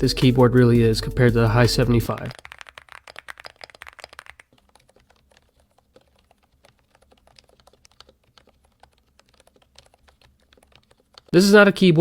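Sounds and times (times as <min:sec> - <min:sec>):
rapid keyboard typing: 0:00.1 - 0:11.6.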